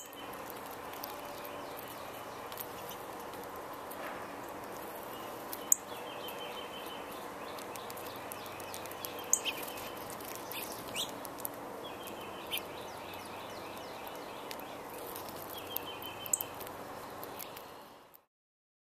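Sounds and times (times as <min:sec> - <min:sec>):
wild birds calling: 0:00.0 - 0:18.0
outdoor background hiss: 0:00.0 - 0:18.3.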